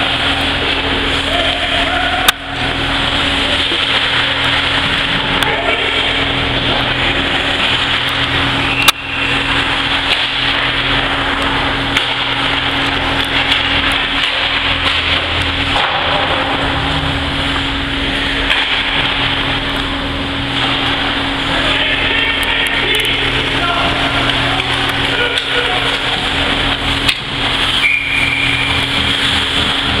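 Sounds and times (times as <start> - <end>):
rink crowd din: 0.0 - 30.0
steady hum: 0.0 - 30.0.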